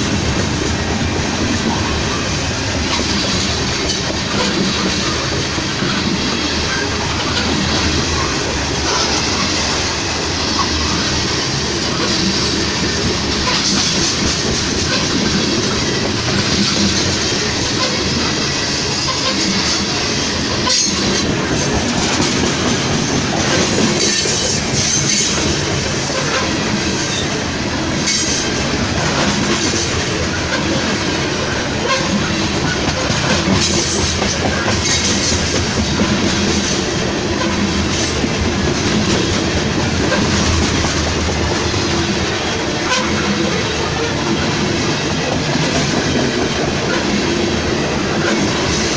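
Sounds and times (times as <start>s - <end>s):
train wheels clattering over rails: 0.0s - 48.9s.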